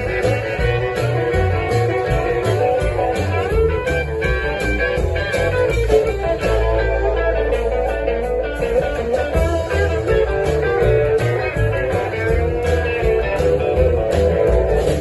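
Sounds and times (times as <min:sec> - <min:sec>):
blues band playing: 0:00.0 - 0:15.0.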